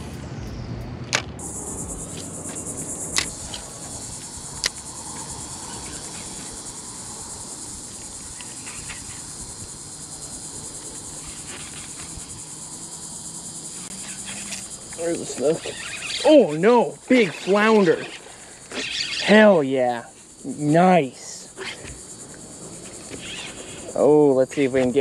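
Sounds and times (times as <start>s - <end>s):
cicada chorus buzzing: 1.2s - 25.0s.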